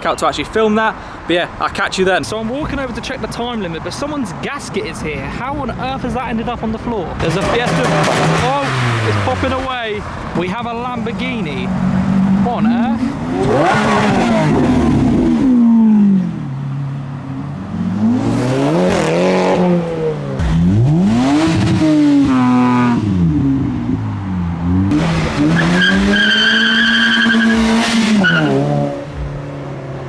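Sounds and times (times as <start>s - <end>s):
car engines revving: 2.3s - 30.0s.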